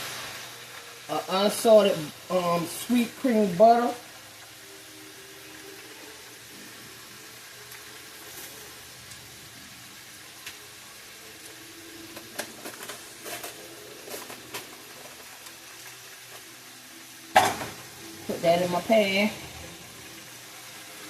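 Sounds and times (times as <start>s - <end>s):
oil sizzling: 0.0s - 21.0s.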